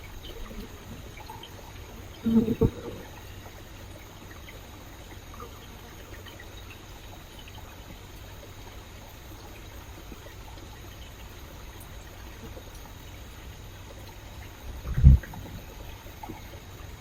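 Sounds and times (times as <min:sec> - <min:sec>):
stream trickling: 0:00.0 - 0:17.0.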